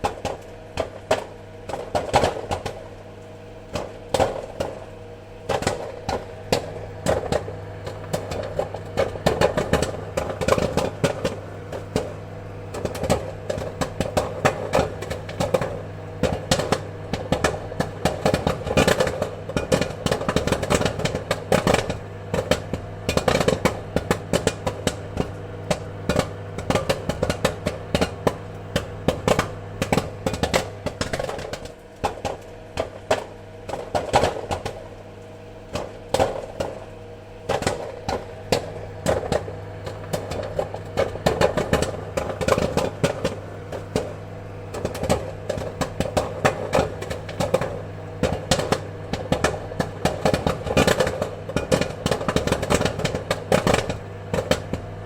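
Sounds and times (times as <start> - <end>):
popcorn popping: 0.0 - 55.0
steady low hum: 0.0 - 55.0.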